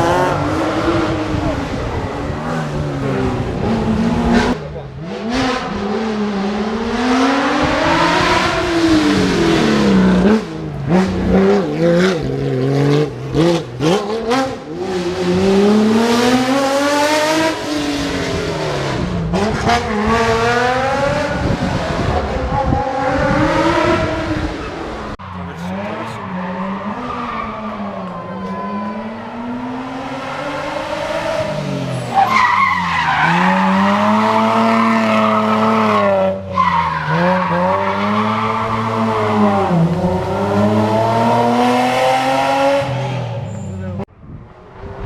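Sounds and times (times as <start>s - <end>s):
rally car engine revving: 0.0s - 44.1s.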